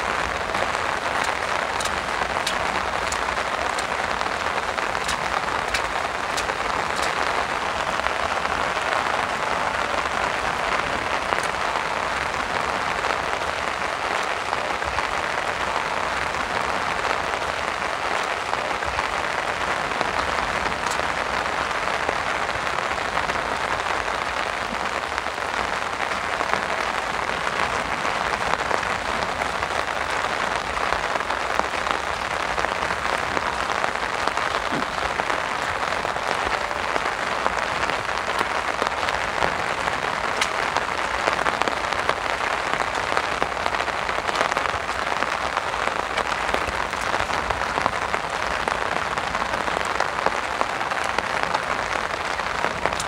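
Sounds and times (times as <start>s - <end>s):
heavy rain on an umbrella: 0.0s - 53.0s.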